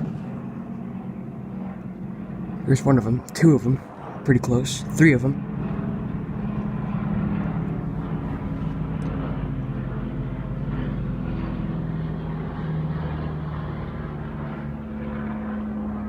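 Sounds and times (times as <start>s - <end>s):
airplane engines droning: 0.0s - 16.0s.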